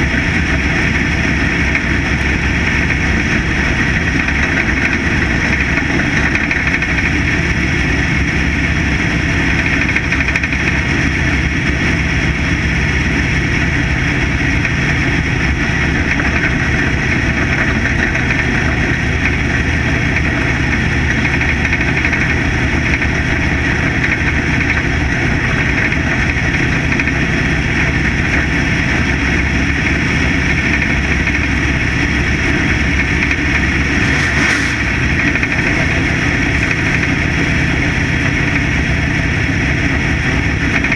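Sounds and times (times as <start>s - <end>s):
race car engine droning: 0.0s - 40.9s.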